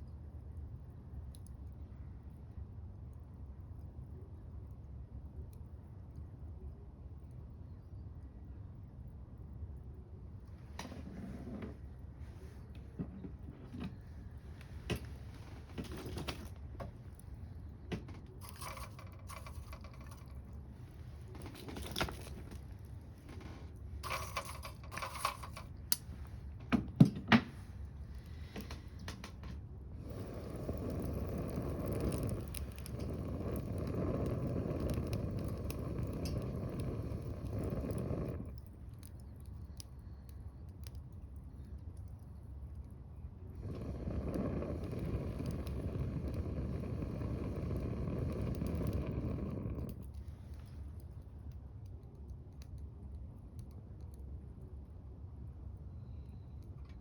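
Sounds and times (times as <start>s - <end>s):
wood fire crackling: 10.2s - 57.0s.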